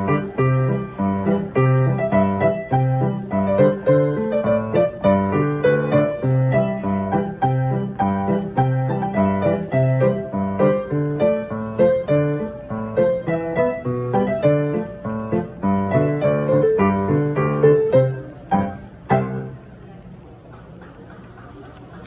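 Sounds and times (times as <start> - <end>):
solo piano song: 0.0 - 20.0.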